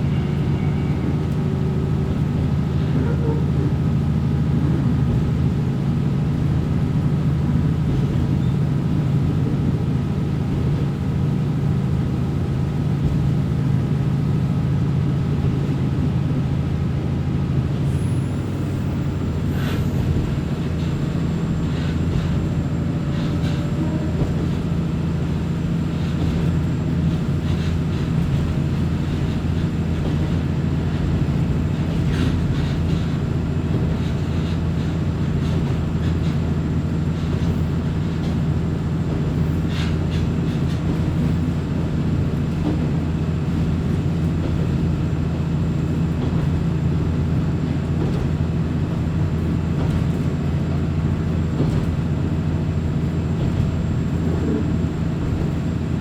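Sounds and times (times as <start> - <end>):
diesel railcar engine drone: 0.0 - 56.0.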